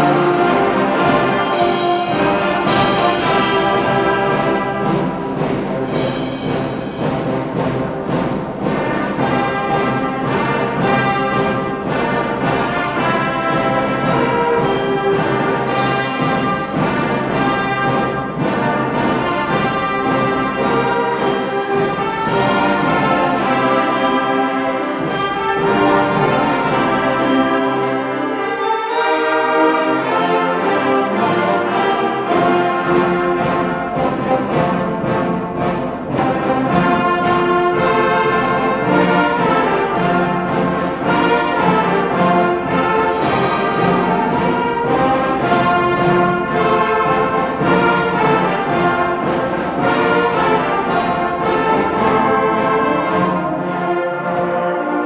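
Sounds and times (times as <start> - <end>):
wind band playing: 0.0 - 55.0.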